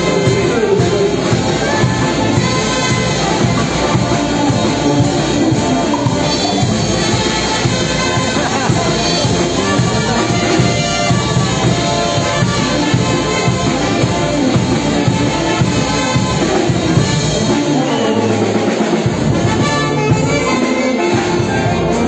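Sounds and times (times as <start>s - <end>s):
drums: 0.0s - 22.0s
horns playing melody: 0.0s - 22.0s
live band playing dance music: 0.0s - 22.0s.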